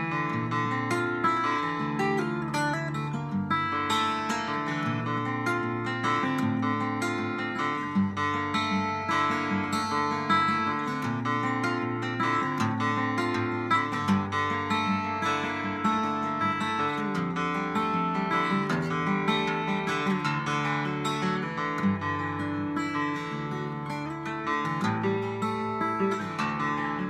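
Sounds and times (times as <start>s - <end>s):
fingerstyle acoustic guitar: 0.0s - 27.0s.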